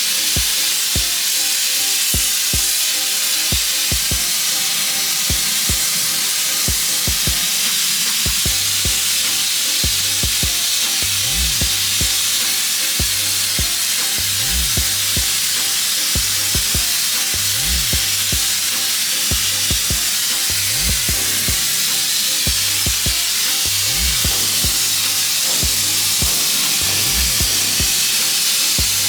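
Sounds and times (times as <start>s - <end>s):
loud steady hiss: 0.0s - 29.0s
music with sliding bass line: 3.5s - 29.0s.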